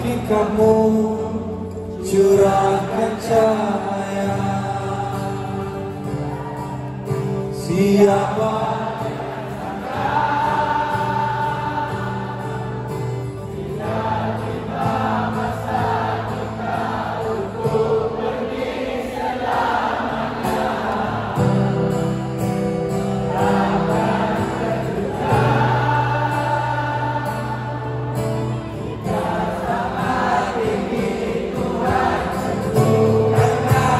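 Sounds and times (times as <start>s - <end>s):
acoustic guitar: 0.0s - 33.9s
crowd singing along: 0.0s - 33.9s.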